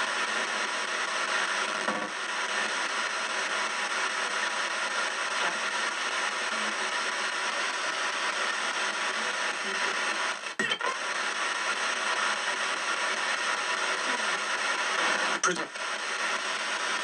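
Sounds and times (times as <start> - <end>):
radio static: 0.0 - 17.0.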